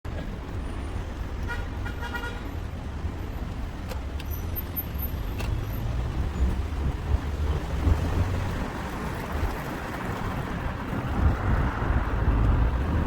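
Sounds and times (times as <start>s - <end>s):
road traffic rumbling: 0.1s - 13.0s.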